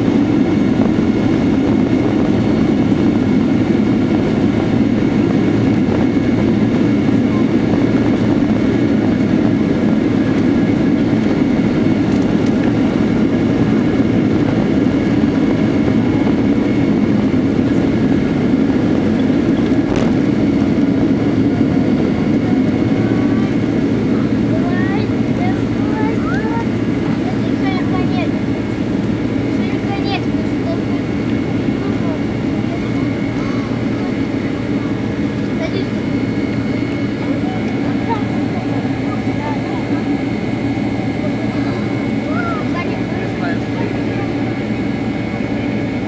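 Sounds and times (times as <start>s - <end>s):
jet engine cabin rumble: 0.0s - 46.0s.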